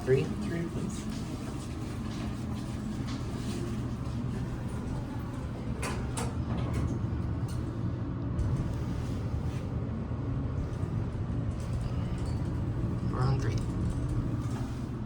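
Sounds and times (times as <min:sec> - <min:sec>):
elevator hum: 0:00.0 - 0:15.0.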